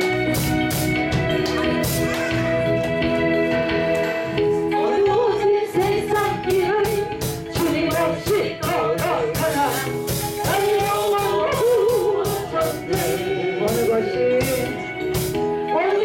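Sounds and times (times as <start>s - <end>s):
amplified instrumental accompaniment: 0.0s - 16.0s.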